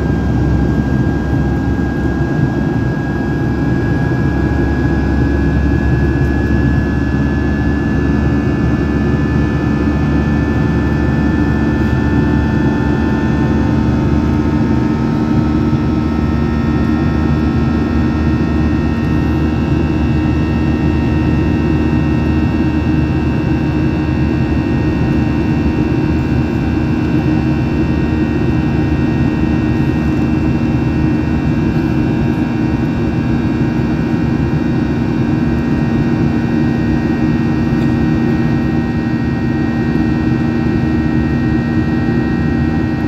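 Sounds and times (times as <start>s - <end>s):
jet engine rushing noise in cabin: 0.0s - 43.0s
steady humming tones: 0.0s - 43.0s.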